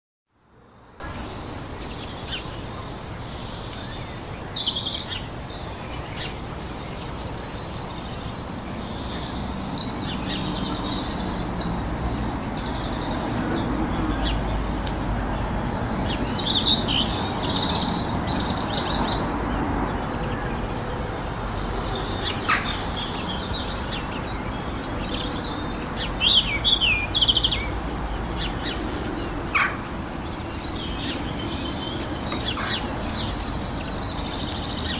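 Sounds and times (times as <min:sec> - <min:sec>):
small birds chirping and trilling: 0:00.9 - 0:34.9.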